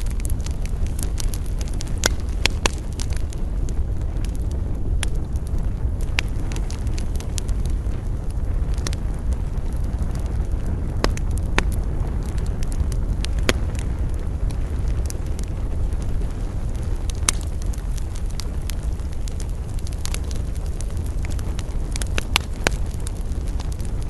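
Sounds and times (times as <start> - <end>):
campfire crackling and popping: 0.0 - 24.0
low rumble: 0.0 - 24.0.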